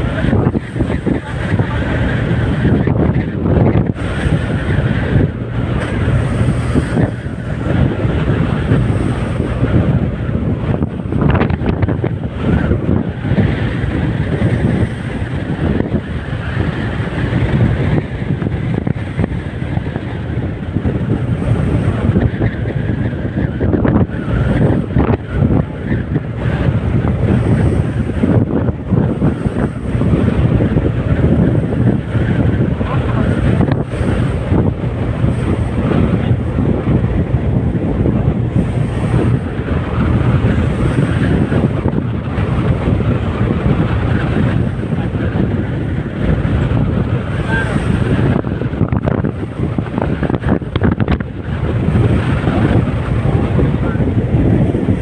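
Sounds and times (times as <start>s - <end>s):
big waves rushing: 0.0s - 55.0s
strong wind buffeting microphone: 0.0s - 55.0s.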